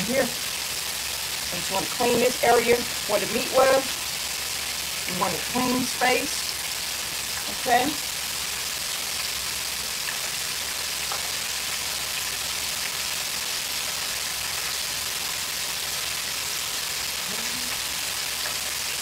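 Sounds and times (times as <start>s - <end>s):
fries sizzling in deep fryer: 0.0s - 19.0s.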